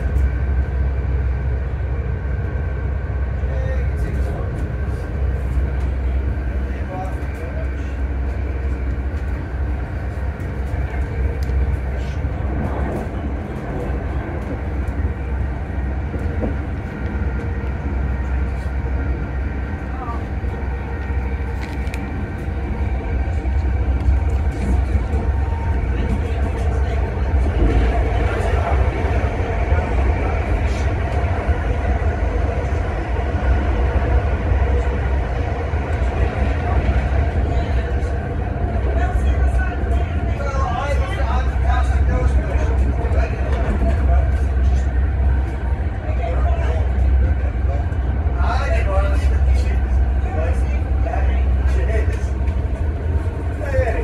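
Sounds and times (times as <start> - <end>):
train cabin low rumble: 0.0 - 54.0.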